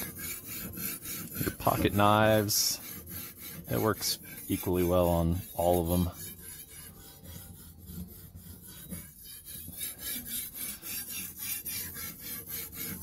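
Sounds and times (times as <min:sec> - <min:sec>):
knife grinding on sharpening stone: 0:00.0 - 0:13.0.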